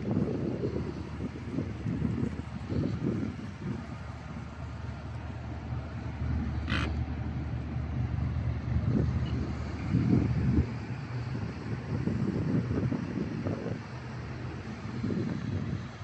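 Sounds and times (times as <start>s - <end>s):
boat engine drone: 0.0s - 16.0s
wind buffeting microphone: 0.0s - 16.0s.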